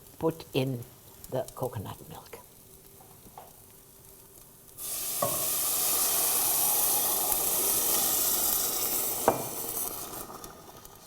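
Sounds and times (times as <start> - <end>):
liquid sizzling in hot pan: 0.0 - 11.0.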